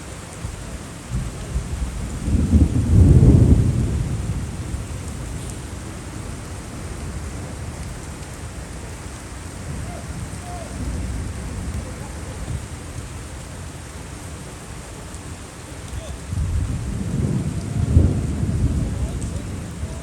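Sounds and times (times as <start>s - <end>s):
steady rain: 0.0s - 20.0s
thunder rumble: 0.0s - 20.0s.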